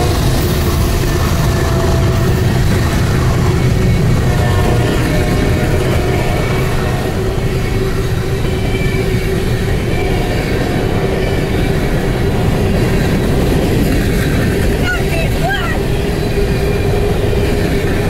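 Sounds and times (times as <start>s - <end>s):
constant humming tone: 0.0s - 18.0s
moving vehicle rumble: 0.0s - 18.0s.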